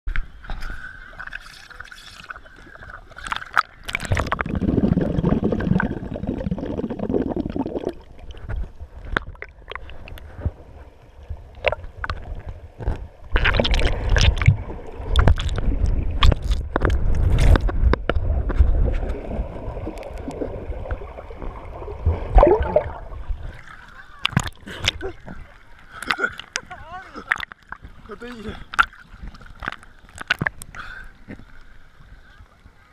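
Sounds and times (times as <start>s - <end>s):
sea water sloshing and gurgling: 0.3s - 32.9s
muffled underwater rumbling: 2.6s - 32.8s.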